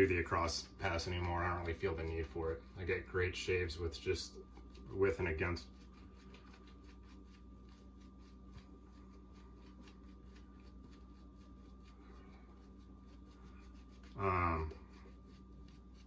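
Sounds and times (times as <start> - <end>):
razor scraping stubble: 0.0 - 16.0.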